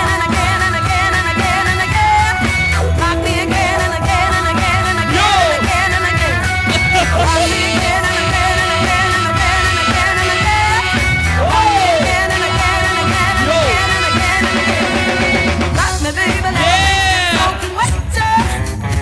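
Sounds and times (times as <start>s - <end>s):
funk music with singing: 0.0s - 19.0s.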